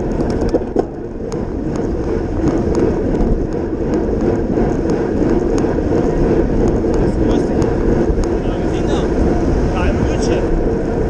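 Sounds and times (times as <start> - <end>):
tyre rumble on road: 0.0 - 11.0
wind rushing over microphone: 0.0 - 11.0.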